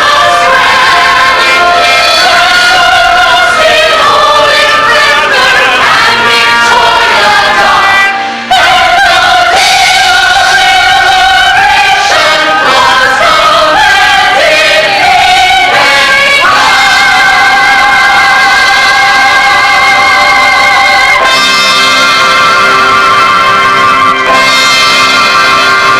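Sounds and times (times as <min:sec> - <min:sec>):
operatic singing with accompaniment: 0:00.0 - 0:25.9.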